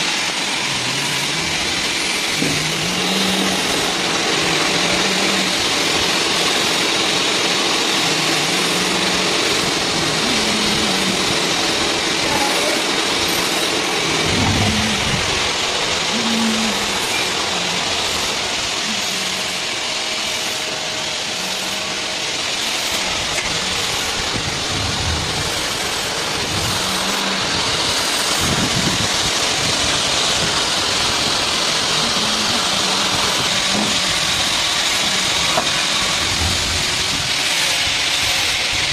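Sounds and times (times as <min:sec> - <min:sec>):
coolant spray hiss: 0:00.0 - 0:38.9
lathe machine running: 0:00.0 - 0:38.9.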